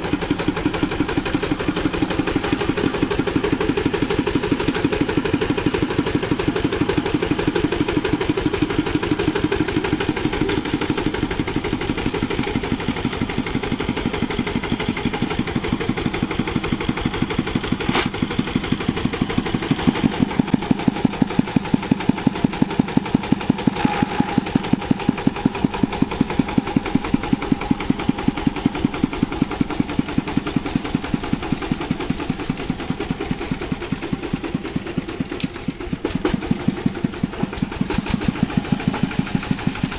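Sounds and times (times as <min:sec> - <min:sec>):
diesel engine running: 0:00.0 - 0:39.9
sharp engine knock: 0:00.0 - 0:39.9.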